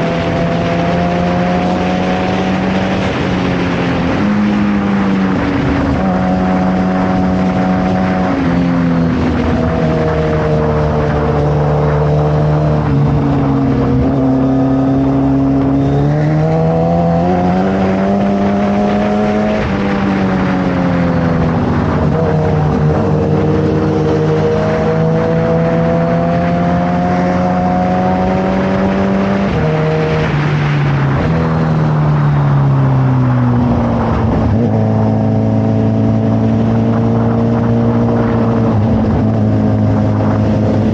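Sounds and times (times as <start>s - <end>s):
motorcycle engine with gear changes: 0.0s - 40.9s.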